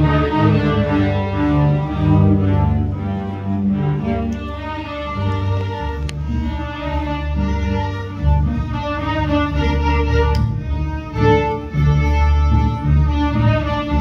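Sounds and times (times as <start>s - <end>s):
low bass line: 0.0s - 14.0s
violins holding notes: 0.0s - 14.0s.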